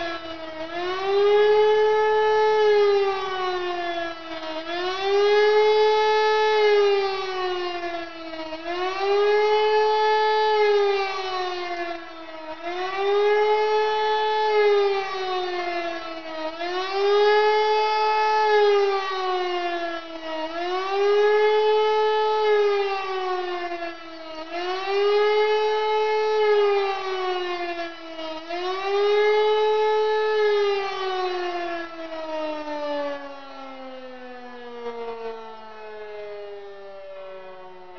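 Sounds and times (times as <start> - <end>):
wailing motor siren: 0.0 - 37.9.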